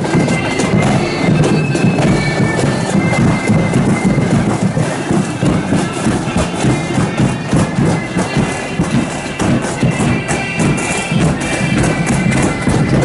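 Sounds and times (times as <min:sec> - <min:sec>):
drums beating: 0:00.0 - 0:13.0
high sustained melody: 0:00.0 - 0:13.0.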